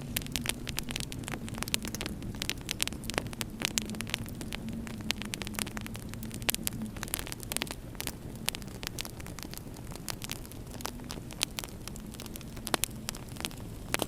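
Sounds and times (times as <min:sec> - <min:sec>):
steady low hum: 0:00.0 - 0:14.0
wood fire crackling: 0:00.0 - 0:14.0.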